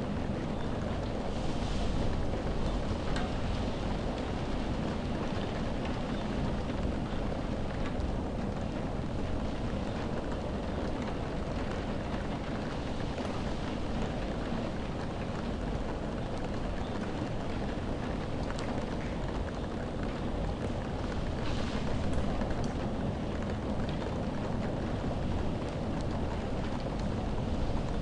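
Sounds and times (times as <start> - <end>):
raindrops hitting window glass: 0.0 - 28.0
wind: 0.0 - 28.0.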